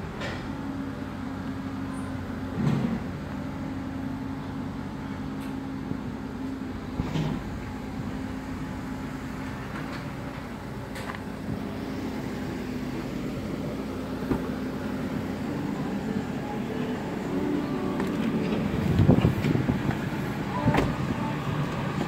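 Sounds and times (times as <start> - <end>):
car engine idling: 3.3 - 22.0.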